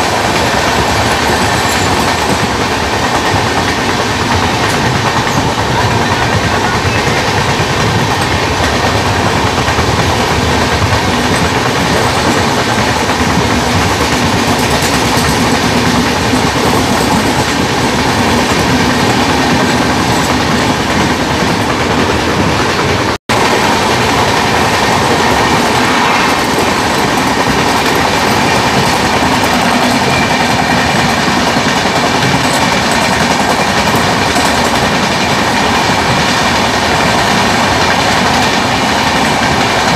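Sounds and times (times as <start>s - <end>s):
trains running at speed: 0.0s - 39.9s.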